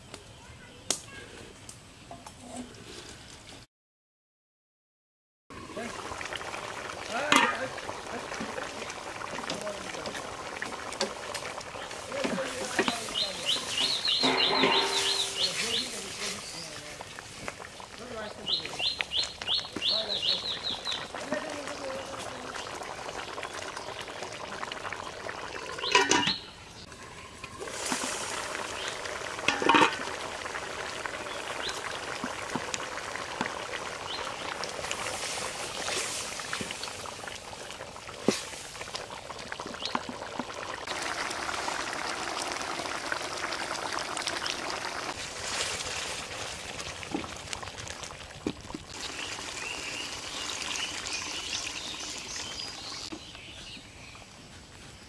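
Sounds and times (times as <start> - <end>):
curry bubbling in a pot: 5.5 - 54.8
water poured into hot pot: 5.6 - 53.0.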